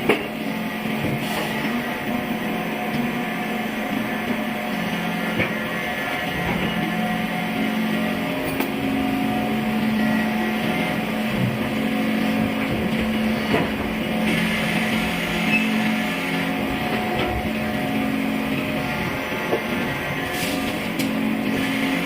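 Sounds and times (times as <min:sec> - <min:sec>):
machine motor droning: 0:00.0 - 0:22.0.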